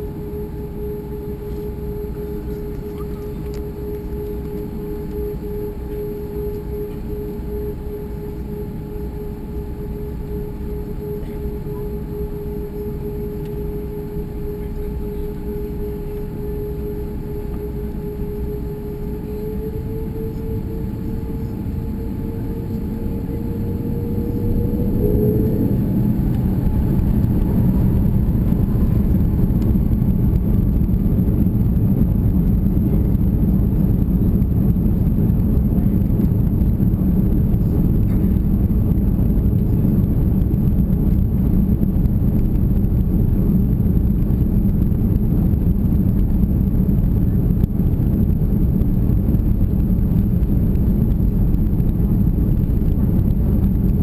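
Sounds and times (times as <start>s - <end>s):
jet engines roaring on takeoff: 0.0s - 54.0s.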